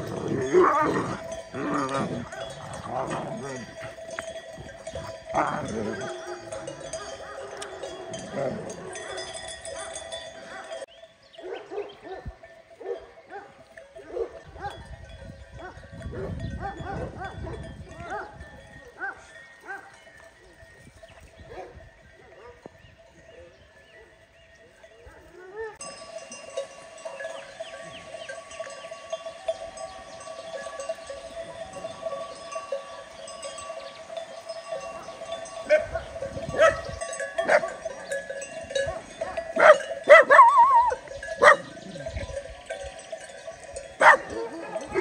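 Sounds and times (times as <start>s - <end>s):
livestock bells jangling: 0.0s - 45.0s.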